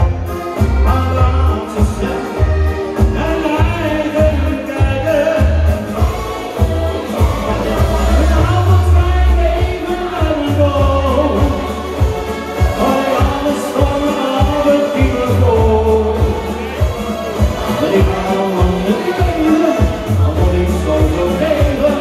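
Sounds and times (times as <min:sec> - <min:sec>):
pop music with drums and singing: 0:00.0 - 0:22.0.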